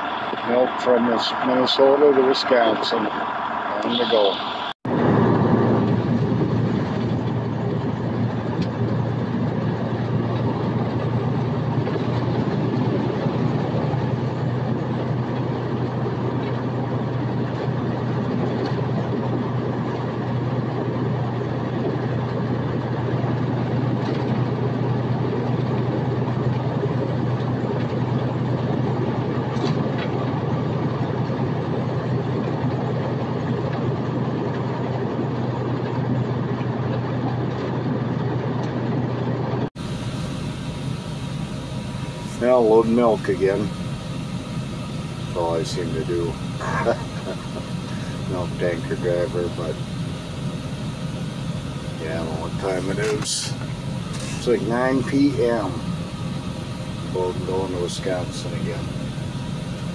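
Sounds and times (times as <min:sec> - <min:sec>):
diesel truck engine drone: 0:00.0 - 0:59.9.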